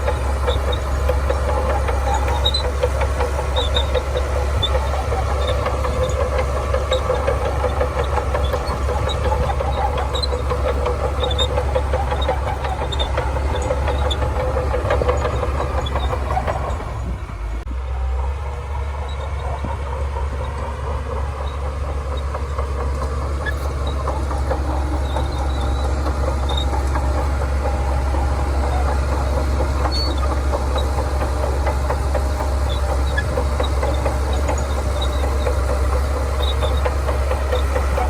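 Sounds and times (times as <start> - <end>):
steel tracks clattering: 0.0 - 17.6, 18.5 - 38.0
diesel engine under load: 0.0 - 38.0.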